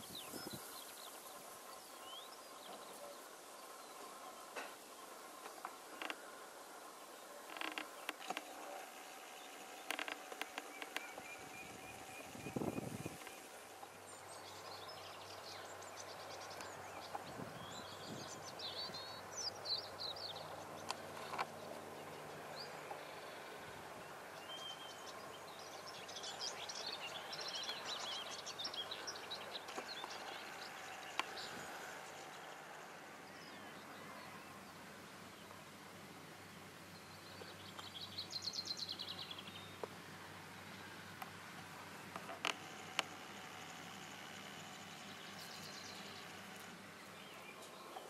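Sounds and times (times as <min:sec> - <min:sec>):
small birds singing and chirping: 0:00.0 - 0:48.0
steady outdoor hiss: 0:00.0 - 0:48.0.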